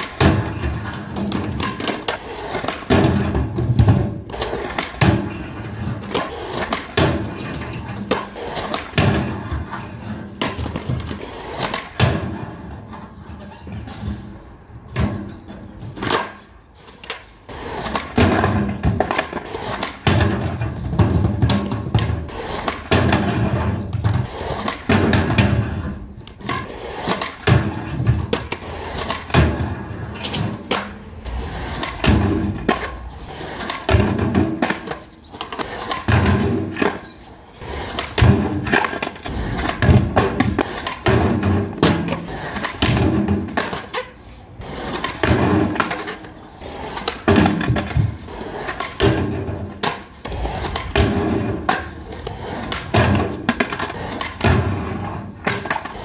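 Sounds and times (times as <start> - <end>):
skateboard grinding on ledge: 0.0 - 14.3, 14.9 - 56.0
skateboard landings: 0.0 - 56.0
skateboard rolling on concrete: 0.0 - 56.0.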